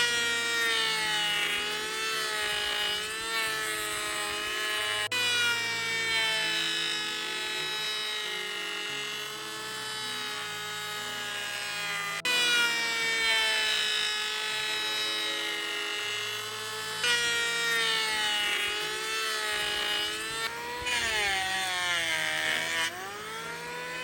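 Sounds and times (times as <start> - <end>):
electric power tool whining: 0.0 - 24.0
quiet background music: 0.0 - 24.0.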